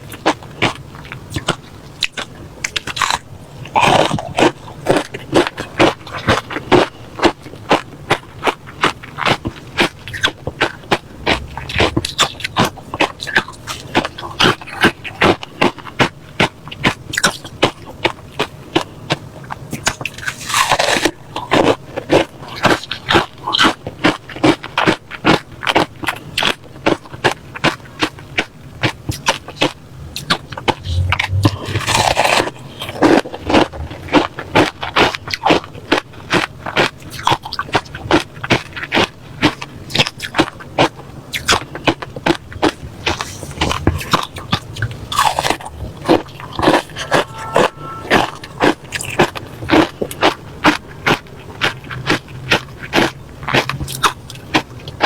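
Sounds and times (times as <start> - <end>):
crushed ice being chewed: 0.0 - 55.0.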